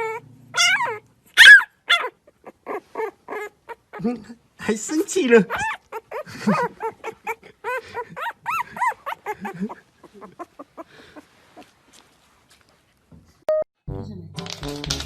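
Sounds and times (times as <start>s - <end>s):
puppy whimpering: 0.0s - 12.1s.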